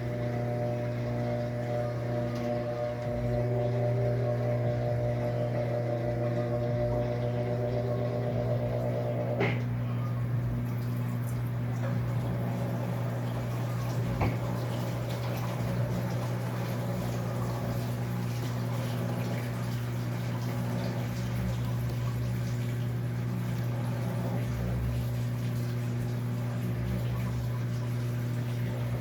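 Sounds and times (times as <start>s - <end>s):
washing machine humming: 0.0s - 29.0s
water moving in drum: 0.0s - 29.0s.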